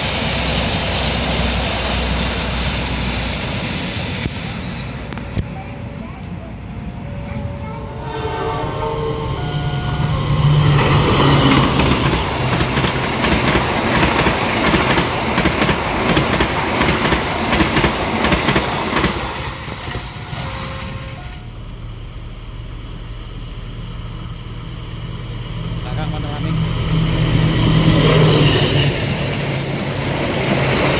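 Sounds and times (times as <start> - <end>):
train passing: 0.0 - 30.9.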